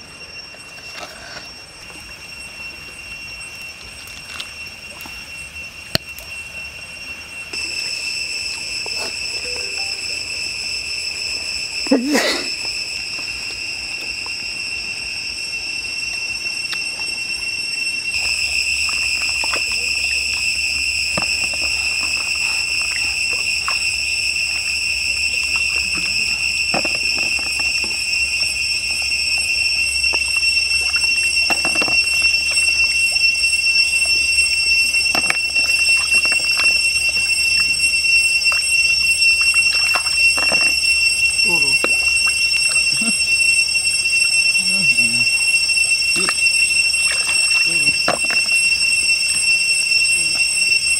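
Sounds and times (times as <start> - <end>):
insect drone: 0.0 - 50.9.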